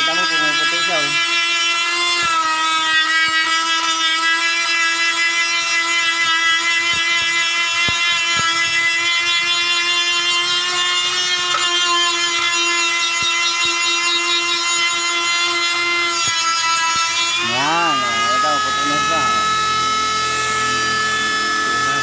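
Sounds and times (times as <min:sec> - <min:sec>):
die grinder whining: 0:00.0 - 0:22.0.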